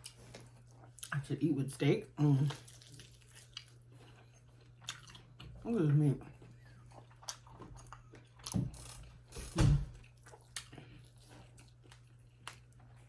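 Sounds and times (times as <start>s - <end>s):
chewing food: 0.0s - 9.3s, 10.0s - 13.0s.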